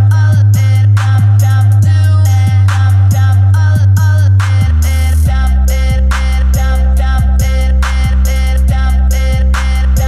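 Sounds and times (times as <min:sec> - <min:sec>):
deep bass note: 0:00.0 - 0:10.0
steady beat: 0:00.0 - 0:10.0.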